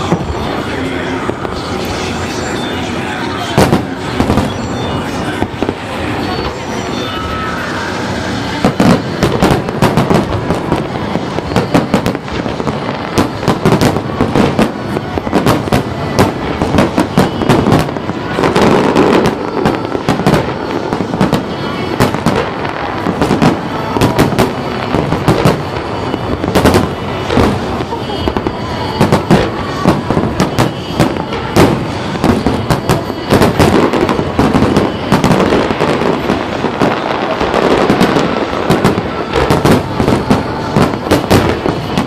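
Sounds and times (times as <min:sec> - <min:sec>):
fireworks crackling: 0:00.0 - 0:42.0.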